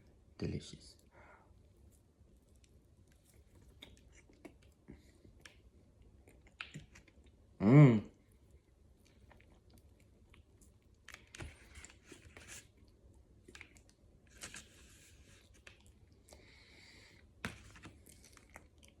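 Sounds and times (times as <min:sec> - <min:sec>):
faint chewing: 0:01.0 - 0:19.0.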